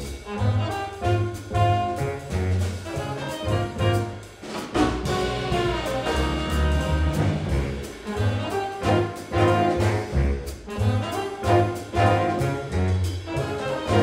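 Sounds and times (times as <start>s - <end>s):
jazz band playing: 0.0s - 14.0s.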